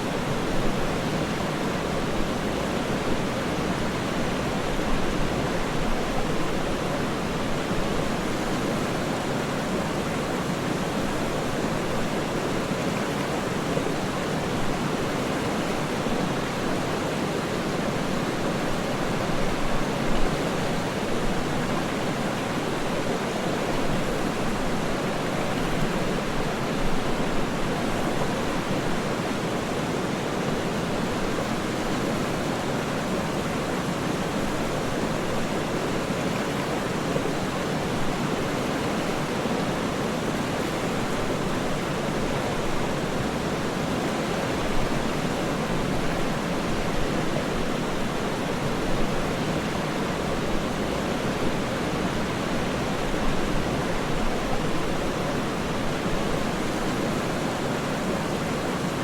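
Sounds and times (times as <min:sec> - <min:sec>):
waterfall rushing water: 0:00.0 - 0:59.0.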